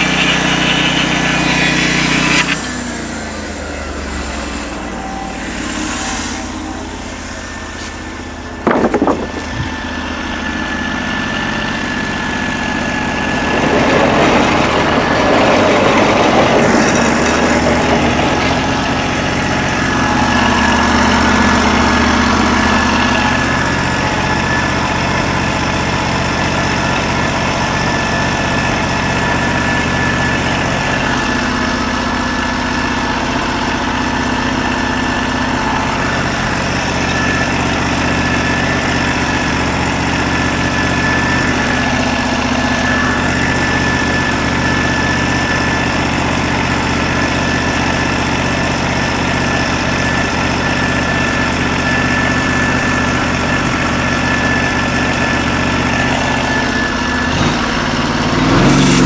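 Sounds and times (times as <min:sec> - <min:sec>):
sawmill gas engine running: 0:00.0 - 0:59.0.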